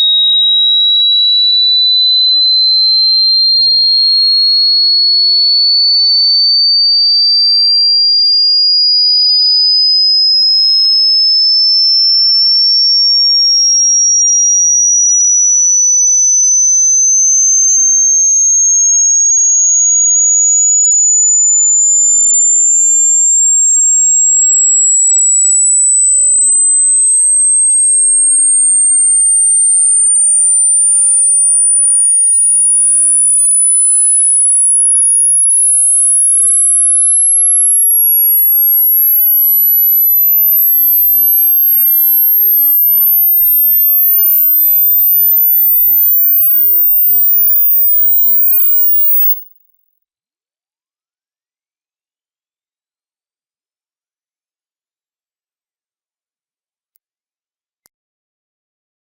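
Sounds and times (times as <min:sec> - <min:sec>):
rising pure test tone: 0:00.0 - 0:49.5.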